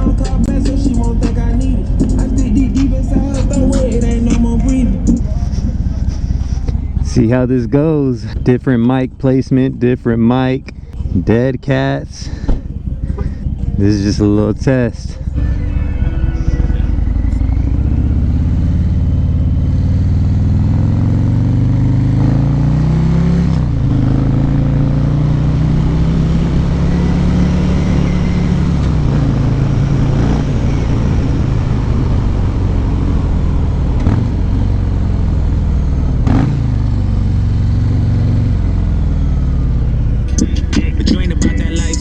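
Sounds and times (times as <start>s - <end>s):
motorcycle engine running loudly: 0.0s - 42.0s.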